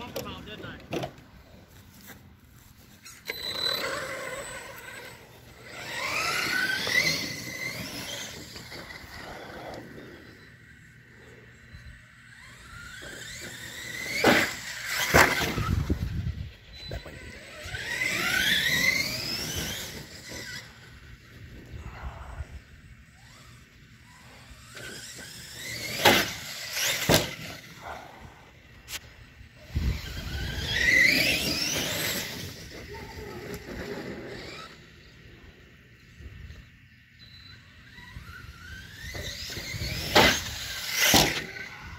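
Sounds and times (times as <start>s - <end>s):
electric motor whining: 2.0s - 41.9s.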